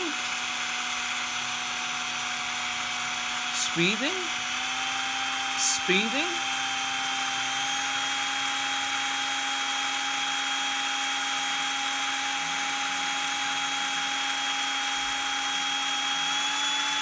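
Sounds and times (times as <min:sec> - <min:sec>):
cordless drill motor whine: 0:00.0 - 0:03.5, 0:06.4 - 0:17.0.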